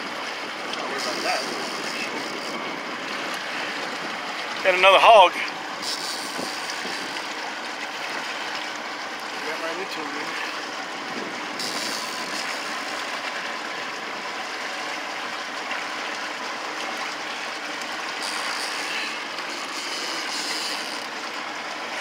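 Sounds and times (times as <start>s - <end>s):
water lapping against boat: 0.0s - 22.0s.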